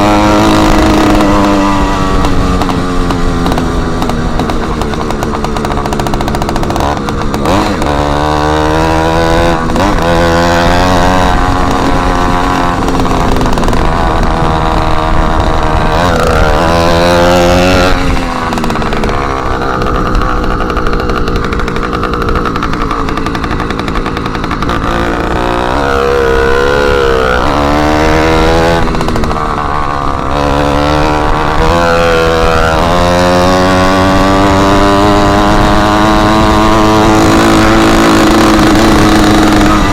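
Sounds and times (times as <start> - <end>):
small engine revving loud: 0.0 - 39.9.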